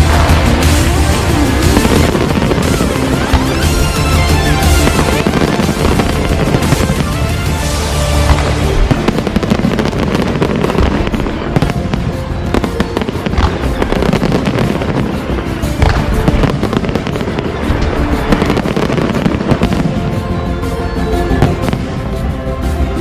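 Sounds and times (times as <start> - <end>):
fireworks crackling and banging: 0.0 - 23.0
music playing: 0.0 - 23.0.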